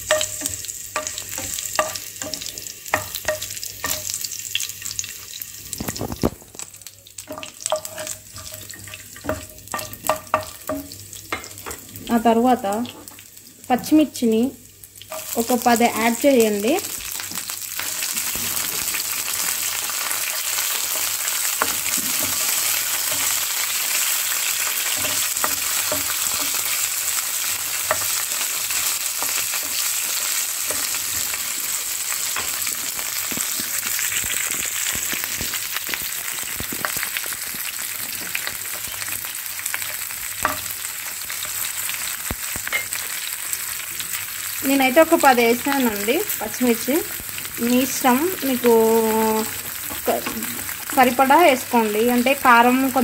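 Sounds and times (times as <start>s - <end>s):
chillies sizzling in hot oil: 0.0s - 53.0s.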